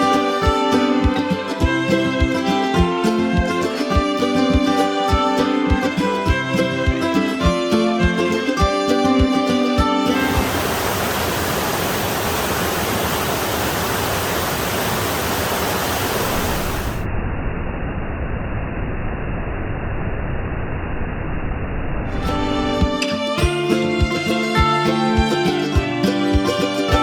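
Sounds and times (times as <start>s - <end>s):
rushing stream water: 0.0s - 17.0s, 22.2s - 27.0s.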